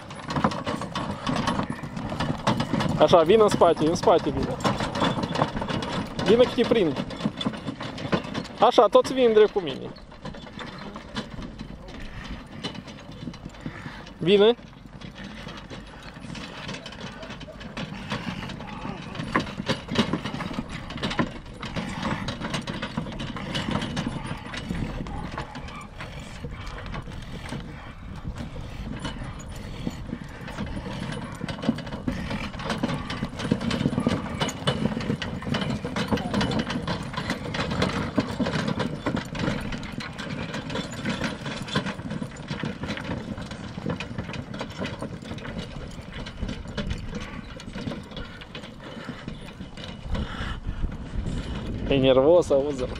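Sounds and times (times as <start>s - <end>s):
horse hoof steps: 0.0s - 52.9s
load and harness rattling: 0.0s - 52.9s.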